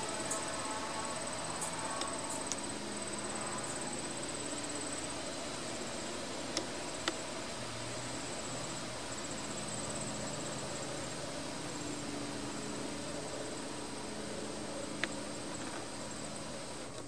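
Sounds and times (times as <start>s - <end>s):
high-pitched insect trill: 0.0s - 16.9s
steady hiss: 0.0s - 17.0s.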